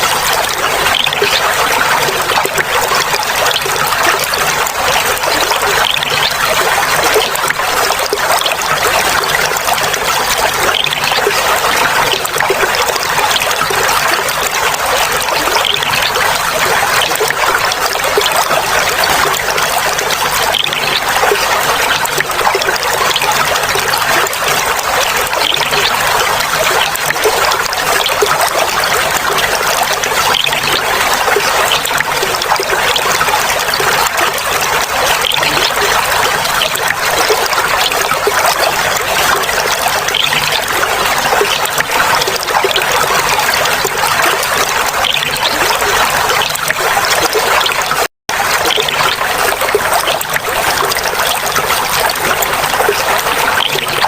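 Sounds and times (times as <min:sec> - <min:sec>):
water trickling over stones: 0:00.0 - 0:54.0.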